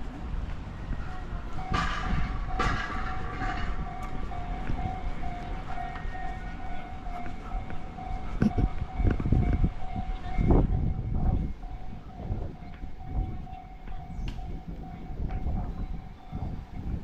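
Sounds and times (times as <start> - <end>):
level-crossing warning bell ringing: 0.0 - 17.0
street noise: 0.0 - 17.0.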